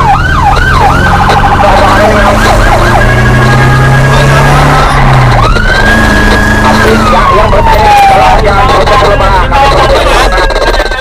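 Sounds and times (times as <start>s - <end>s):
emergency siren switching tones: 0.0s - 10.6s
vehicle engine running: 0.0s - 11.0s.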